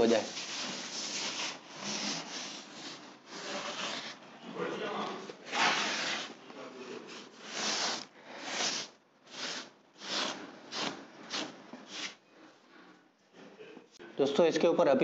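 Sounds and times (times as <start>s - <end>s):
cloth wiping wall: 0.0s - 12.9s.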